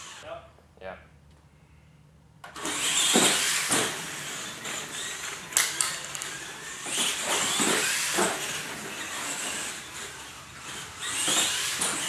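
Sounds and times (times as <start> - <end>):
toy truck motor whirring: 0.0 - 0.2, 2.5 - 12.0.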